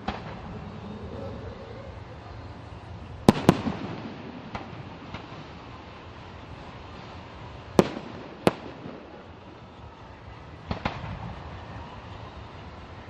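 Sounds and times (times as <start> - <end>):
fireworks bangs: 0.0 - 13.0
outdoor background noise: 0.0 - 13.0.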